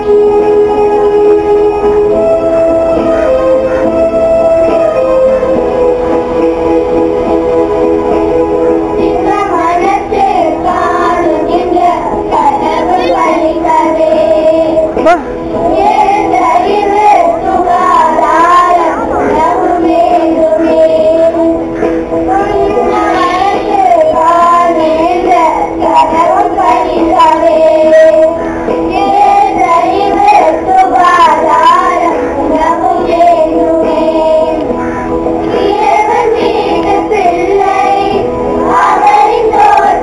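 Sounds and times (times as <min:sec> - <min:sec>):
children singing: 0:00.0 - 0:40.0
instrumental accompaniment: 0:00.0 - 0:40.0.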